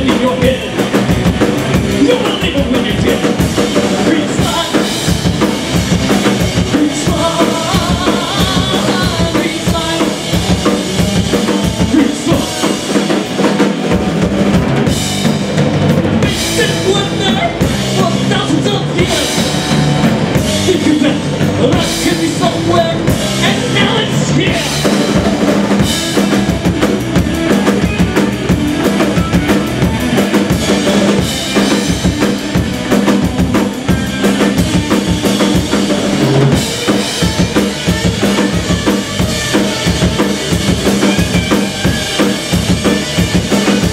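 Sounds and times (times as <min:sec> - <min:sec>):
drum kit beat: 0:00.0 - 0:43.9
electric bass: 0:00.0 - 0:43.9
electric guitar: 0:00.0 - 0:43.9.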